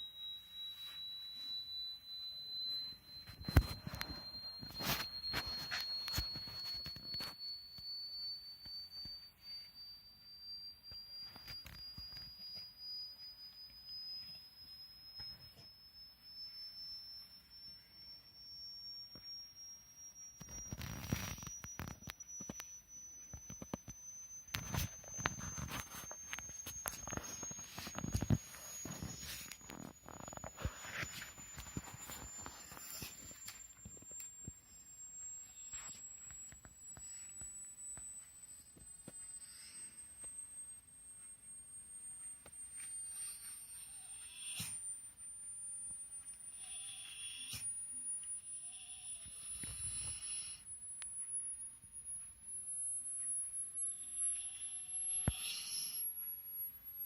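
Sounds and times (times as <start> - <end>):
high test tone gliding upward: 0.0 - 57.0.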